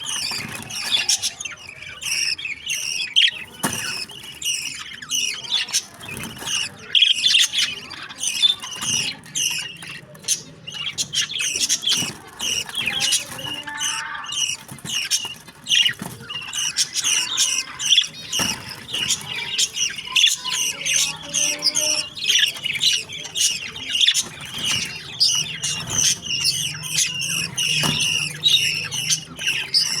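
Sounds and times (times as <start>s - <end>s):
bird chicks chirping begging calls: 0.0s - 30.0s.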